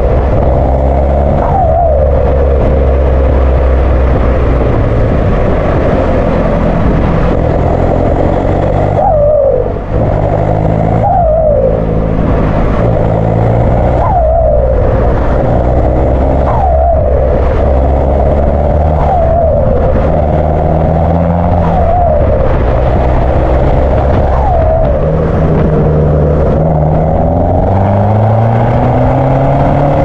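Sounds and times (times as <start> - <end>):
diesel engine revving: 0.0 - 30.0
turbo whoosh: 0.0 - 30.0.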